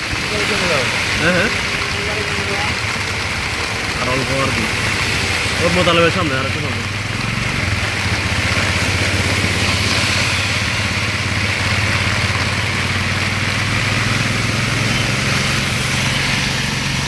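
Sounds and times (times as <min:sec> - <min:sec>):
heavy rain on wet road: 0:00.0 - 0:17.0
vehicle engine humming: 0:00.0 - 0:17.0.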